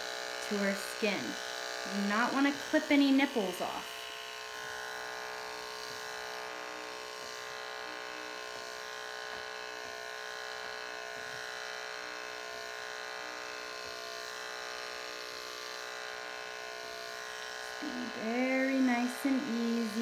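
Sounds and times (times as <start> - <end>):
electric clippers buzzing: 0.0 - 20.0.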